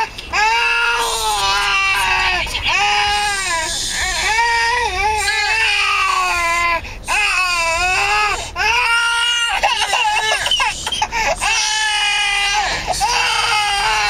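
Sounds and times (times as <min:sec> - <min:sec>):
baby crying: 0:00.0 - 0:14.0.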